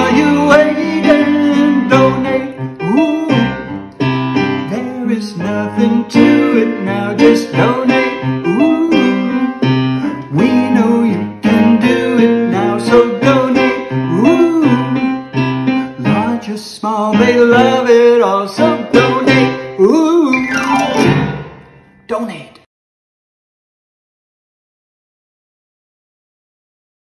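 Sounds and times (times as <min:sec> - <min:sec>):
pop song with keyboard and guitar: 0:00.0 - 0:22.1.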